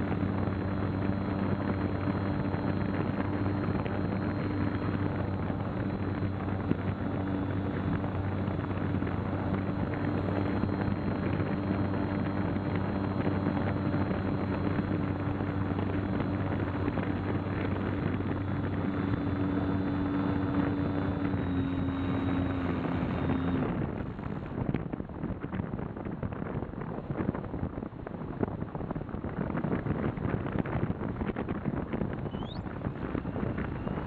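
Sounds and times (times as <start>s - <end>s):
steady low hum: 0.0s - 34.0s
wind rushing over microphone: 0.0s - 34.0s.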